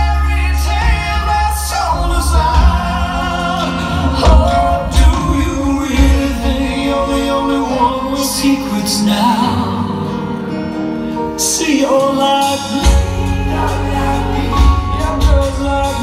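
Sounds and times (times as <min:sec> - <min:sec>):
keyboard chords: 0:00.0 - 0:16.0.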